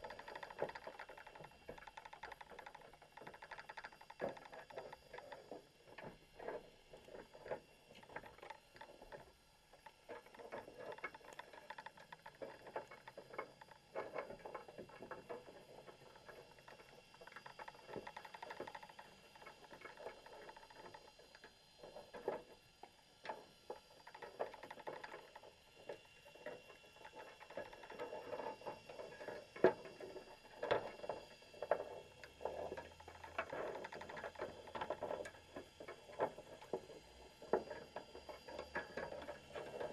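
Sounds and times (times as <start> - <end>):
muffled underwater clicks and taps: 0.0 - 39.9.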